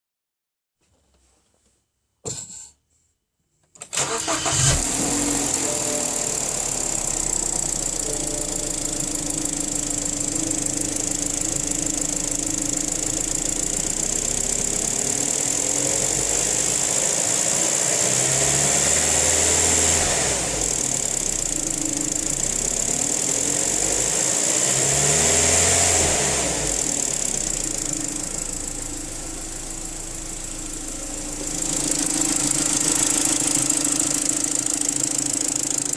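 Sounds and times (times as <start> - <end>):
car engine starting and revving: 3.8 - 35.9.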